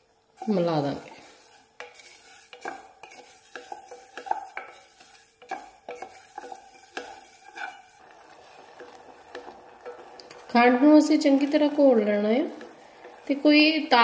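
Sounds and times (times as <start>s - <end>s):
wooden spatula scraping a pan: 0.4s - 14.0s.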